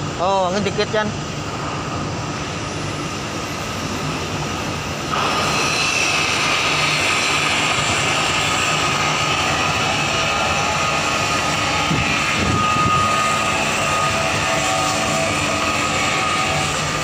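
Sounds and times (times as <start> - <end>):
faint high whine: 0.0 - 17.0
ship engines and machinery running: 0.0 - 17.0.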